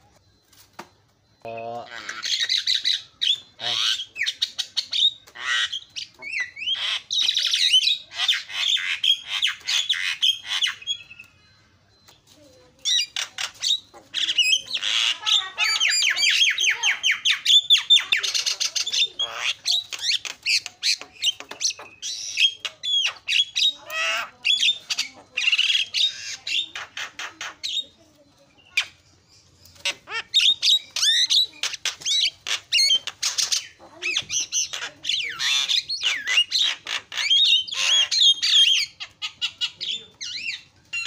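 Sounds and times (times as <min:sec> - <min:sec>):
myna chattering and whistling: 0:00.0 - 0:41.0.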